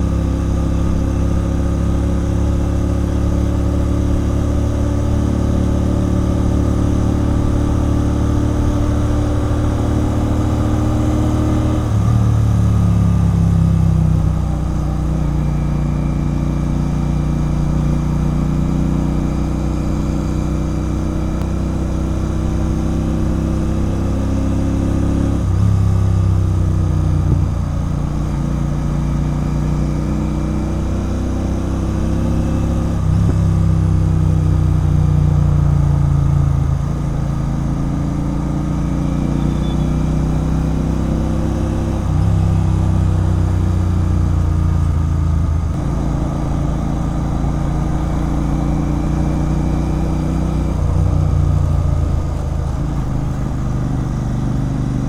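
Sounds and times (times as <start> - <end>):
motorcycle engine through loud exhaust: 0.0 - 55.0.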